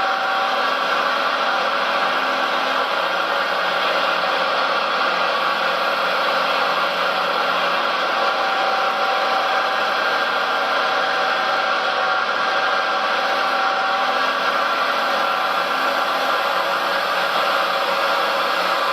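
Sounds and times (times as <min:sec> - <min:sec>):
small electric motor whine: 0:00.0 - 0:18.9.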